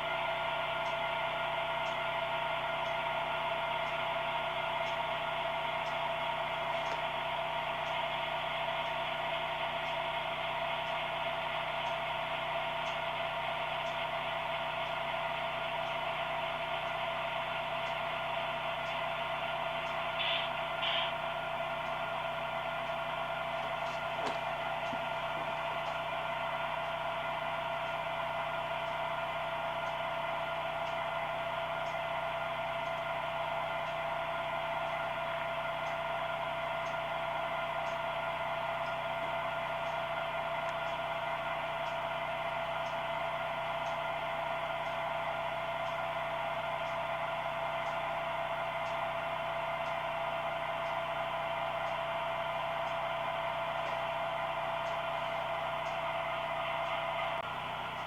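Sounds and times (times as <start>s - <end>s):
model train humming: 0.0s - 58.0s.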